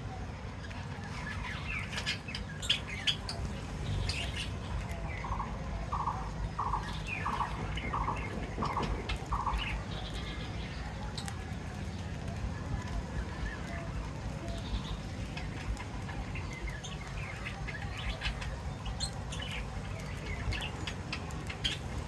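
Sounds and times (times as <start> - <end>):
birds chirping and squawking: 0.6 - 12.1, 13.3 - 22.0.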